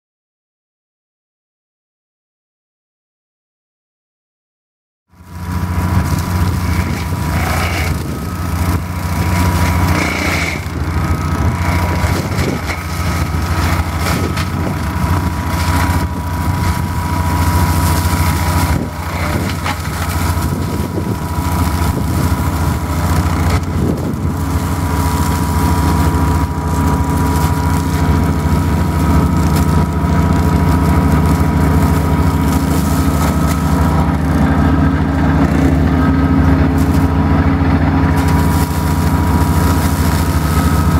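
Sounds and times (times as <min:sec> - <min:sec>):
flail mower whine: 0:05.1 - 0:40.9
tractor engine under load: 0:05.1 - 0:40.9
flails cracking through reeds: 0:05.8 - 0:34.7, 0:35.3 - 0:37.2, 0:38.1 - 0:40.9.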